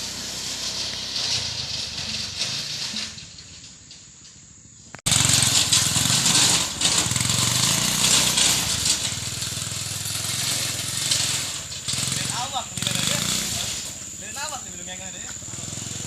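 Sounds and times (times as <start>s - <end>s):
small engine running: 0.0s - 3.2s, 5.1s - 16.0s
metallic rattle: 0.6s - 14.6s.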